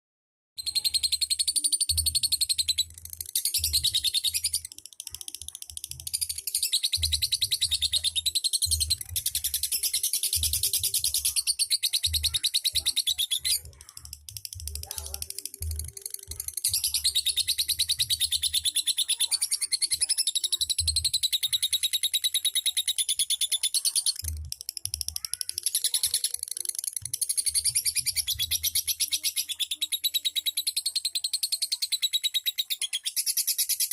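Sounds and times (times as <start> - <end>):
lovebird chattering trill: 0.6 - 33.9.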